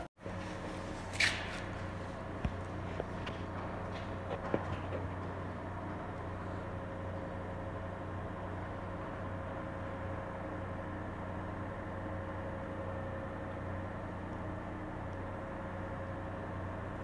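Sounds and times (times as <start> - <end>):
mechanical hum with thin tone: 0.0 - 17.0.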